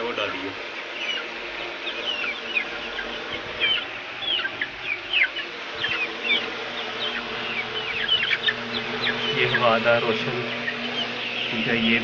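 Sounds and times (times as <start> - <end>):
chicks peeping: 0.0 - 12.0
steady hum: 0.0 - 12.0.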